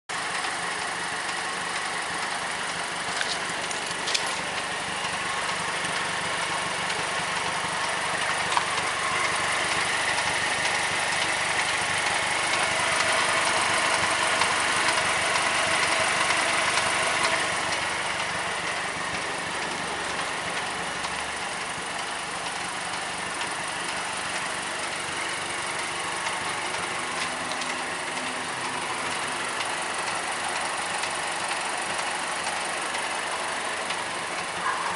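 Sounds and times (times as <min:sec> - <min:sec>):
car engine idling with ticking: 0:00.1 - 0:34.9.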